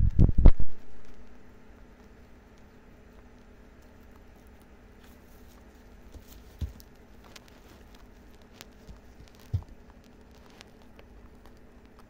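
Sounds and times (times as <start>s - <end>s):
rabbits chewing hay: 0.2s - 12.0s.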